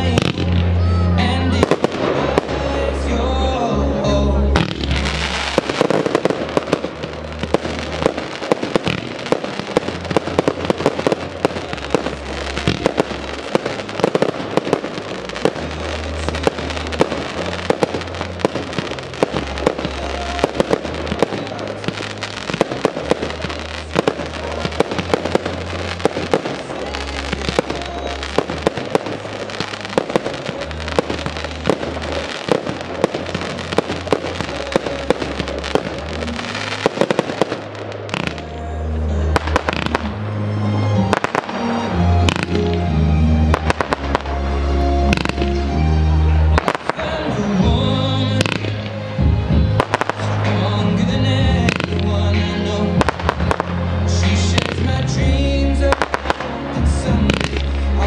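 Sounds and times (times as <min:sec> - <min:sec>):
fireworks bursts and crackle: 0:00.0 - 0:58.0
music with deep bass line: 0:00.0 - 0:58.0.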